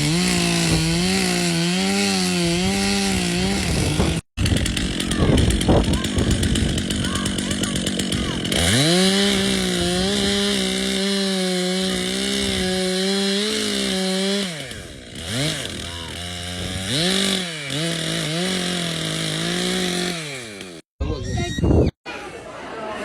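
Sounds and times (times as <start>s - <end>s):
chainsaw revving: 0.0s - 20.9s.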